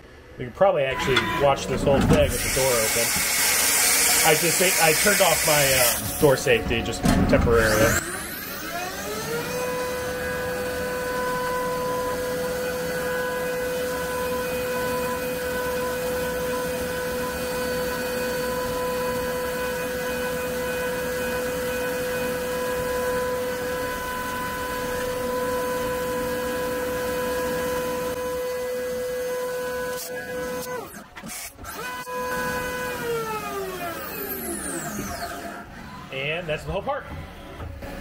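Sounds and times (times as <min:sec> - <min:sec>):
machine spindle whine: 0:00.8 - 0:28.4, 0:29.4 - 0:38.0.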